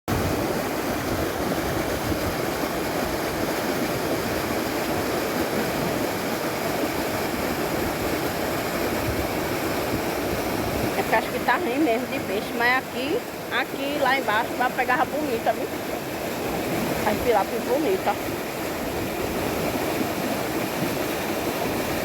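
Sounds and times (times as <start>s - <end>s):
rushing water: 0.1s - 22.0s.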